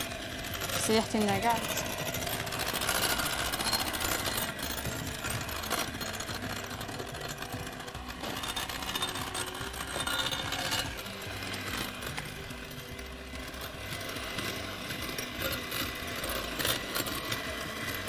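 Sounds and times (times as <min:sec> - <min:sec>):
electric mixer whipping in a bowl: 0:00.0 - 0:18.0.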